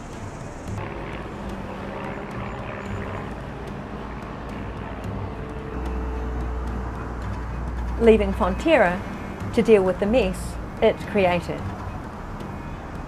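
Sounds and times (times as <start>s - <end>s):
deep hum: 0.0s - 10.8s
traffic rumble: 0.0s - 13.0s.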